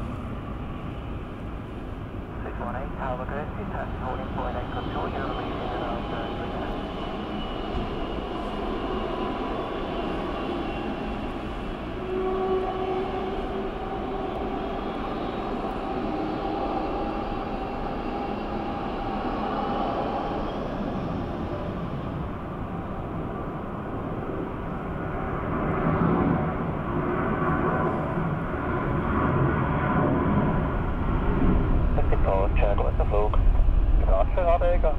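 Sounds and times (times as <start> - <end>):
jet engine whines: 0.0 - 34.9.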